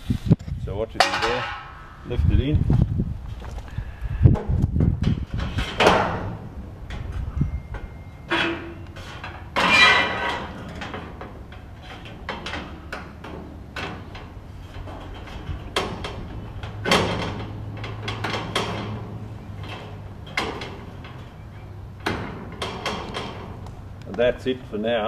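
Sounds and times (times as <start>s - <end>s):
fence panel clanking and scraping: 1.0s - 2.2s, 4.4s - 24.3s.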